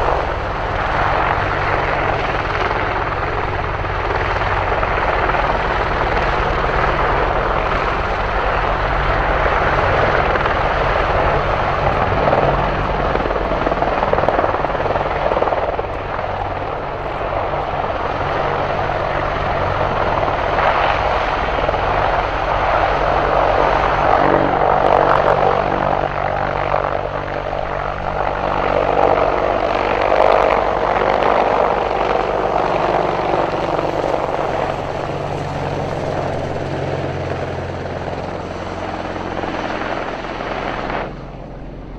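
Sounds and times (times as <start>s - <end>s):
helicopter rotors and engines: 0.0s - 41.9s.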